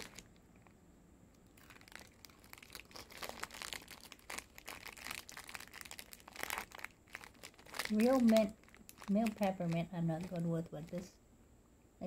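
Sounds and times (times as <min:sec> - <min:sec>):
candy wrapper crinkling: 0:00.0 - 0:00.8, 0:01.4 - 0:11.2.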